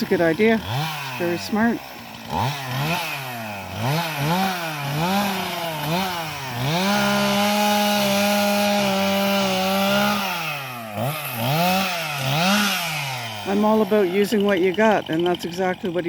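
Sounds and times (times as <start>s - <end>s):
chainsaw revving and cutting: 0.0s - 16.0s.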